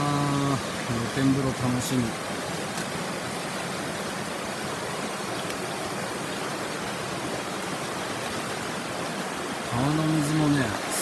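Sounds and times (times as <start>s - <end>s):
mountain river flowing: 0.0s - 11.0s.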